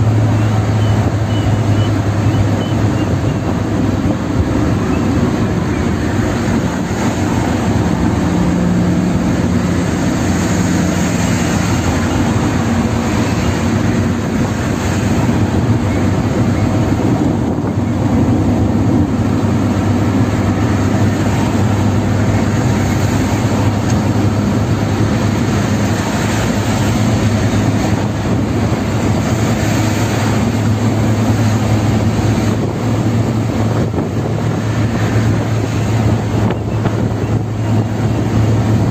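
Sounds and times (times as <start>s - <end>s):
engine drone: 0.0s - 38.9s
tyre noise on road: 0.0s - 38.9s.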